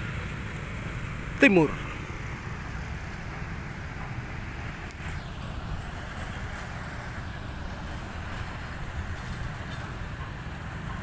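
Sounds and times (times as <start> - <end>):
cars and motorcycles passing: 0.0 - 11.0.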